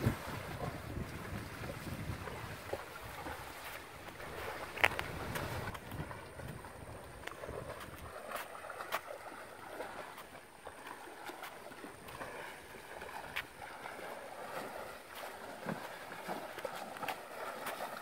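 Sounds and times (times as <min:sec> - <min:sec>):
horse legs splashing in water: 0:00.0 - 0:18.0.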